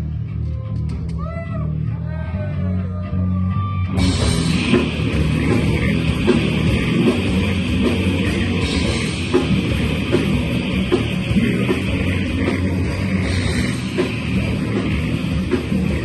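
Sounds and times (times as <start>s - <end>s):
heavy metal band playing: 0.0s - 16.0s.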